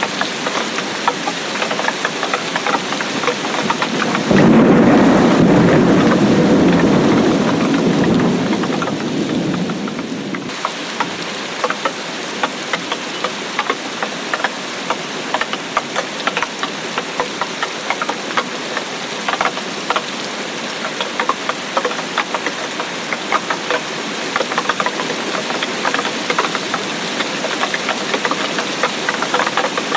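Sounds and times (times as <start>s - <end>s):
raindrops ticking: 0.0s - 29.9s
steady rain hiss: 0.0s - 29.9s.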